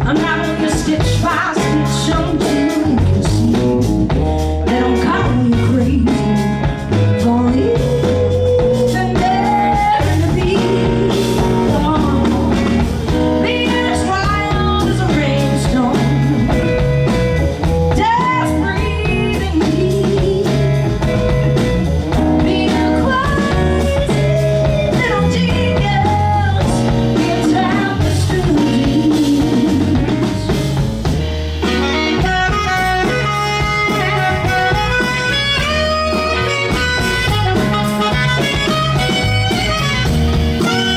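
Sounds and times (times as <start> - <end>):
drum kit: 0.0 - 40.9
electric bass: 0.0 - 40.9
lead guitar bending notes: 1.7 - 40.9.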